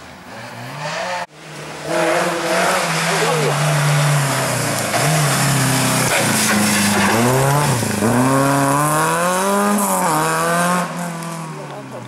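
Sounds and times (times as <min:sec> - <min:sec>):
rally car engine revving: 0:00.3 - 0:12.0.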